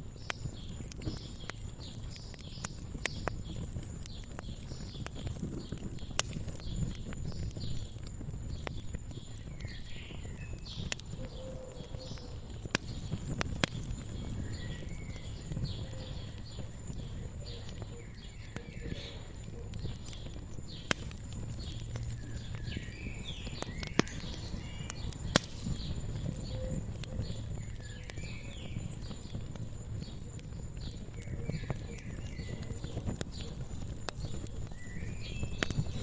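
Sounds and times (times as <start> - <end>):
wood fire crackling: 0.0 - 36.0
small birds chirping: 0.1 - 36.0.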